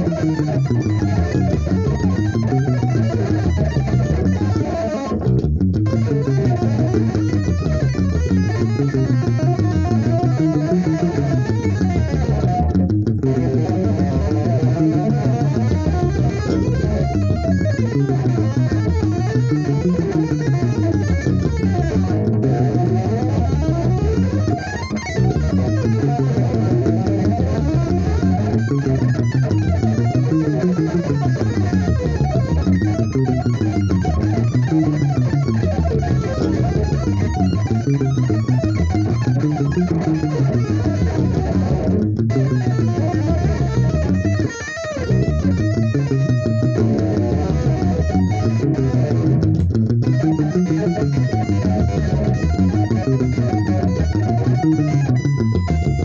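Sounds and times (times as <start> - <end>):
electric guitar tapping arpeggios: 0.0 - 56.0.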